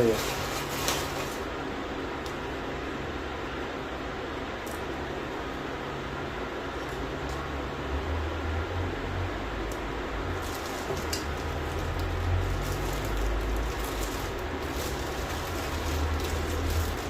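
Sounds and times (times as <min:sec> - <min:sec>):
noisy hiss: 0:00.0 - 0:17.0.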